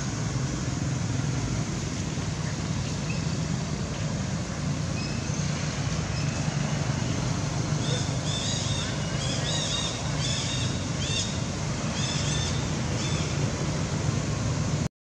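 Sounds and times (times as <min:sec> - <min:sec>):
low rumble and hiss: 0:00.0 - 0:14.9.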